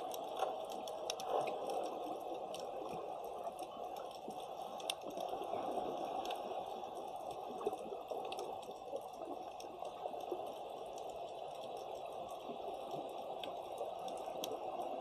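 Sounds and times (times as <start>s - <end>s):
underwater rushing water: 0.0s - 15.0s.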